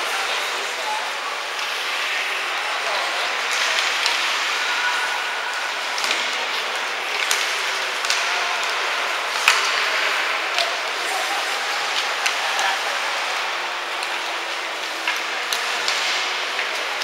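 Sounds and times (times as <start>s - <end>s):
hockey sticks and puck clacking: 1.5s - 17.0s.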